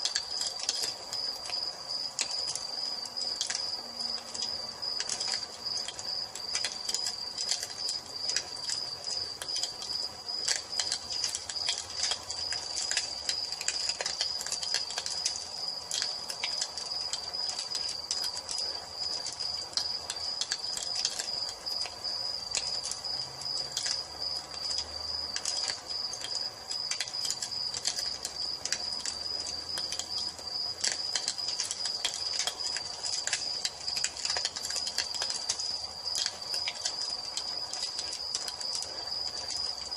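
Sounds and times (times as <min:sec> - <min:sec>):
crickets trilling: 0:00.0 - 0:39.9
wood fire crackling: 0:00.0 - 0:39.9.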